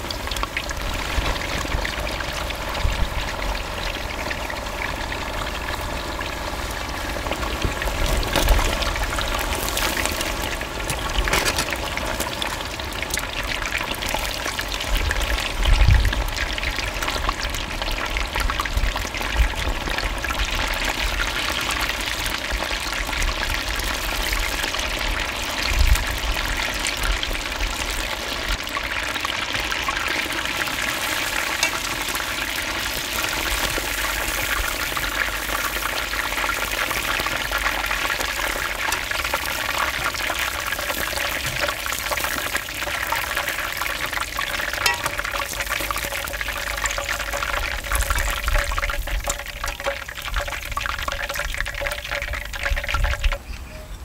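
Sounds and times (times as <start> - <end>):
oil sizzling and bubbling: 0.0 - 53.6.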